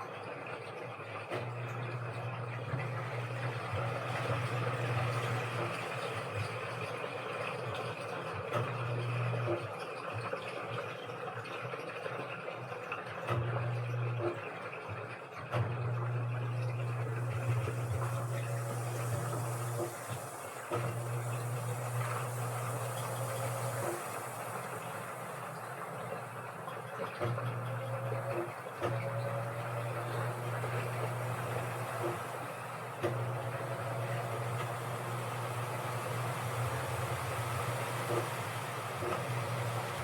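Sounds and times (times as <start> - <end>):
washing machine motor hum: 0.0 - 40.0
water sloshing in washing machine: 0.0 - 40.0.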